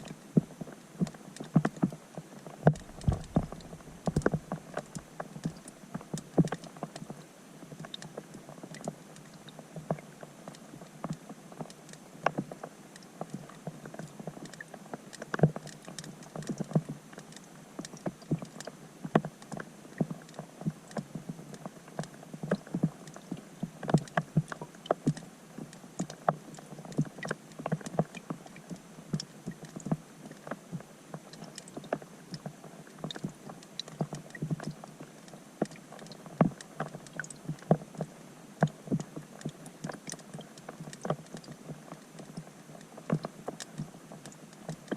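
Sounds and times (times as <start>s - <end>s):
muffled underwater rain patter: 0.0s - 44.9s.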